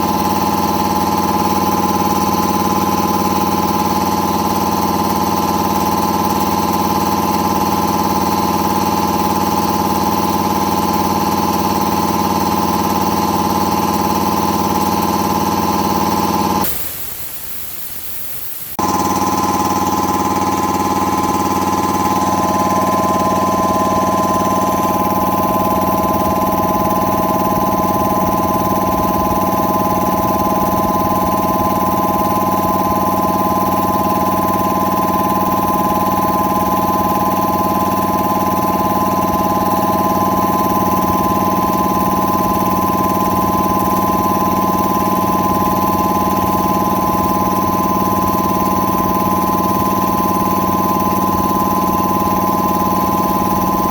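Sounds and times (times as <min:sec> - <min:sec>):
air compressor pump running: 0:00.0 - 0:53.9.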